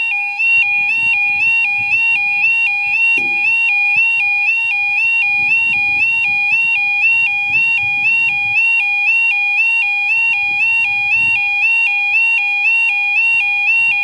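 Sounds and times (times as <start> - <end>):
two-tone electronic warning alarm: 0.0 - 14.0.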